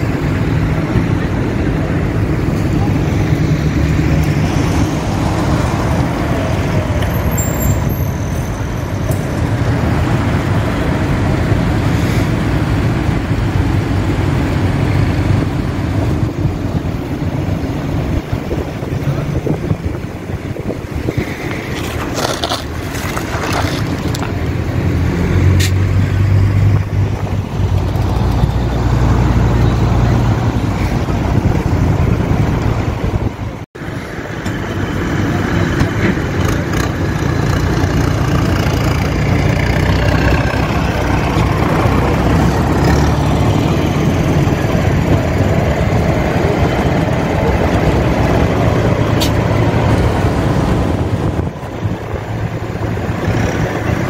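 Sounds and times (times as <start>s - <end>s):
road noise: 0.0s - 54.0s
tractor engines droning: 0.0s - 54.0s.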